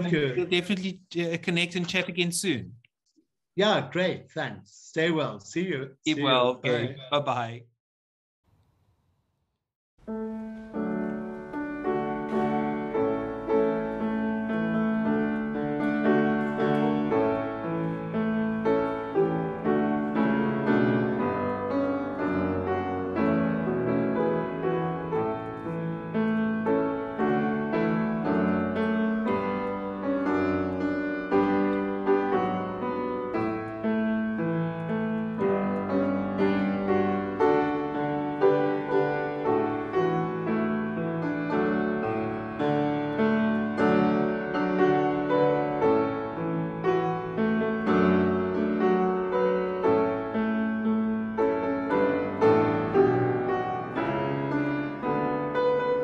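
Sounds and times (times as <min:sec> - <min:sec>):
piano music: 0:00.0 - 0:02.5, 0:10.0 - 0:56.0.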